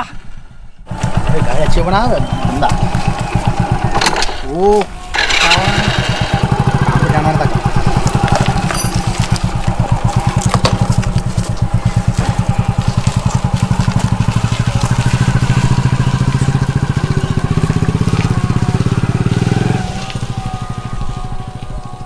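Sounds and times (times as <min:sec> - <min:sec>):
motorcycle engine chugging: 0:00.9 - 0:22.0.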